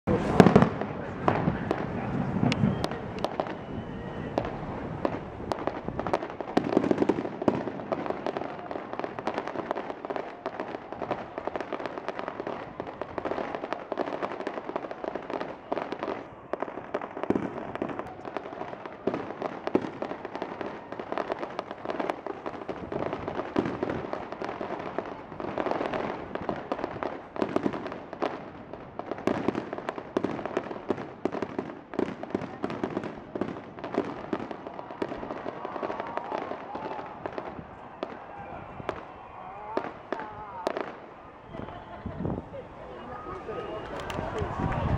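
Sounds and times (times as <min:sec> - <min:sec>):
fireworks bursting and crackling: 0:00.1 - 0:44.9.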